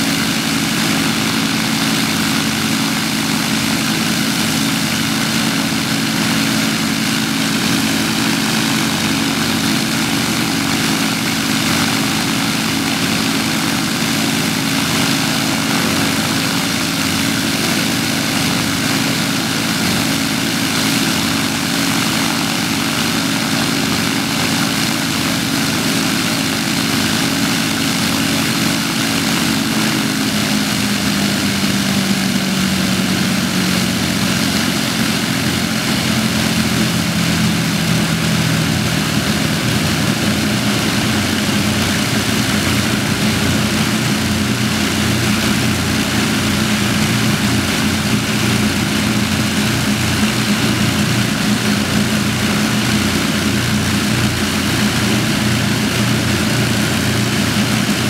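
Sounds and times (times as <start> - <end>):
propeller aircraft engines running: 0.0 - 58.0.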